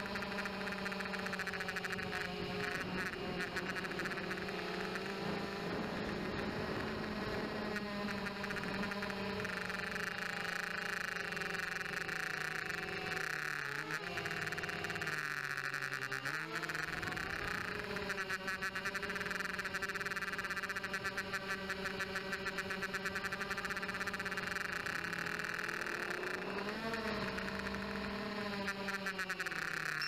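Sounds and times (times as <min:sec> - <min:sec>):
quadcopter propellers buzzing: 0:00.0 - 0:30.0.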